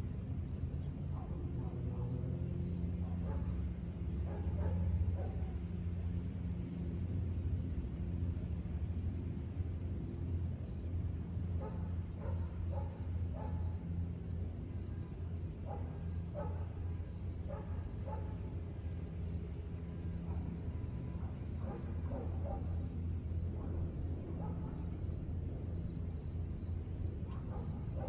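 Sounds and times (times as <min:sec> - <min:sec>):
steady low hum: 0:02.5 - 0:28.0.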